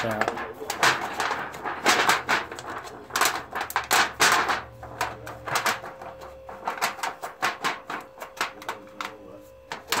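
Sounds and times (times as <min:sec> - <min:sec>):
foil pan crinkling and clattering: 0:00.0 - 0:10.0.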